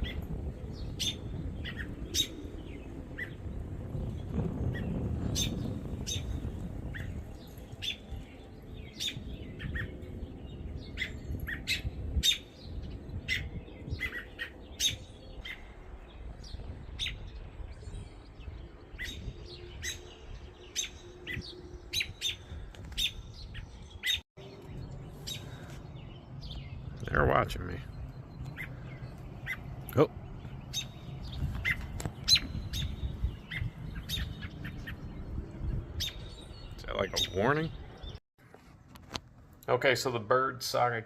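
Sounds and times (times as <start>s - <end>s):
robins chirping: 0.0s - 38.2s
wind rumbling on microphone: 0.0s - 38.2s.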